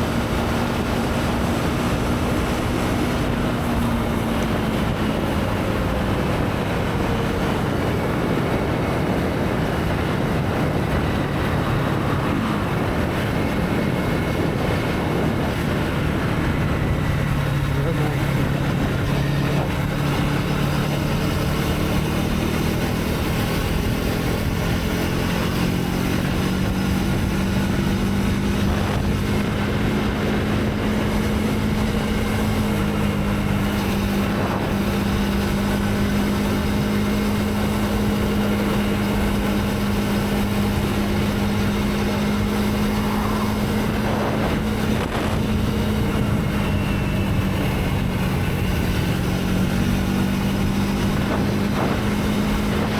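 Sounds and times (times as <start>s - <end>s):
constant rushing noise: 0.0s - 52.9s
motorcycle engine cruising: 0.0s - 52.9s.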